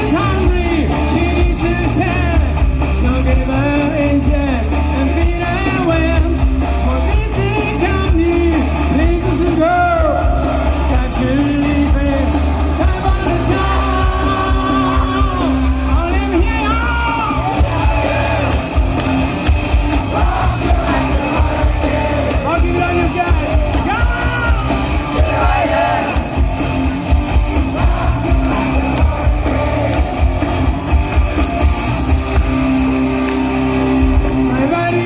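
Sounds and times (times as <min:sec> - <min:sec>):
man singing lead vocals: 0:00.0 - 0:18.7, 0:19.9 - 0:26.4, 0:27.4 - 0:30.6
steady drum beat: 0:00.0 - 0:34.6
distorted electric guitars: 0:00.0 - 0:35.0.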